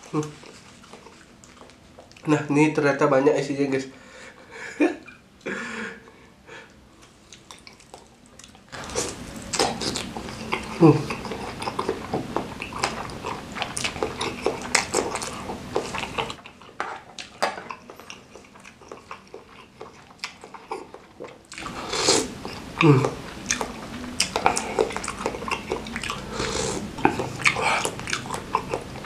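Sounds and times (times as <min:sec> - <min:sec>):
chewing food: 0:00.0 - 0:02.3, 0:07.0 - 0:29.0.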